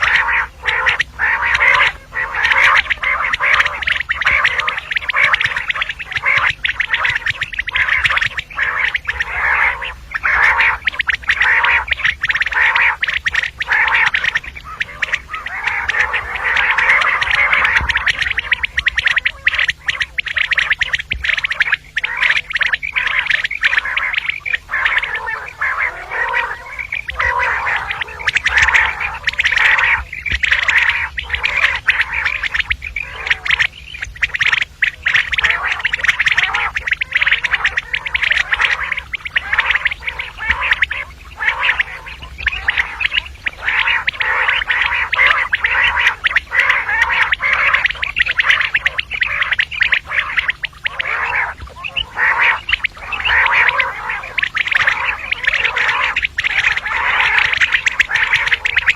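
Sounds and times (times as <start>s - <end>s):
quails calling: 0.0s - 58.9s.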